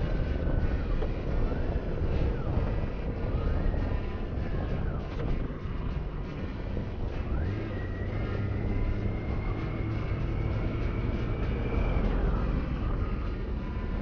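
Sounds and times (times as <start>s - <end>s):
motorcycle engine revving: 0.0s - 14.0s
wind rumble on microphone: 0.0s - 14.0s.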